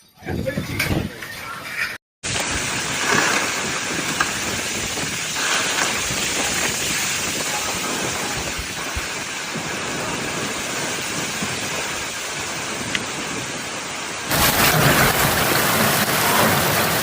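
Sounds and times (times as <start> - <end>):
heavy rain pouring: 2.2 - 17.0.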